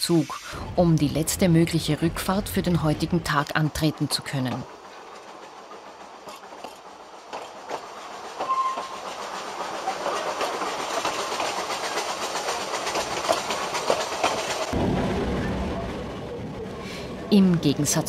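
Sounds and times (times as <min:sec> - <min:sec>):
train wheels rattling on rail: 0:00.6 - 0:18.0.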